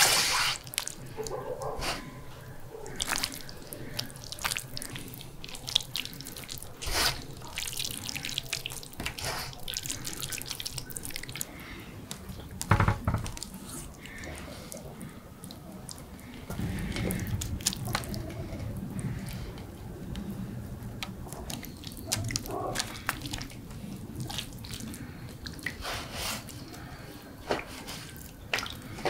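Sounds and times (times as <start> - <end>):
wet squelching of raw meat: 0.0 - 29.0.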